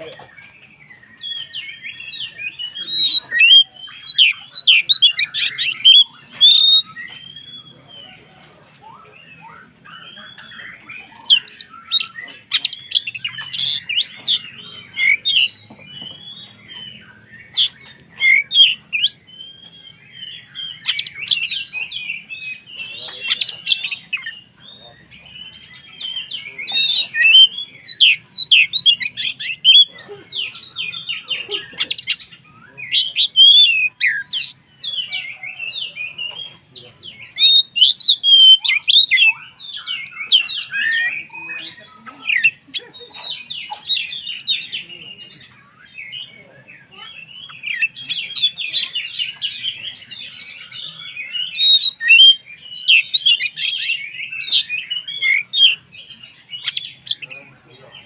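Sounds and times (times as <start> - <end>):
songbird whistling and chirping: 0.0 - 58.0.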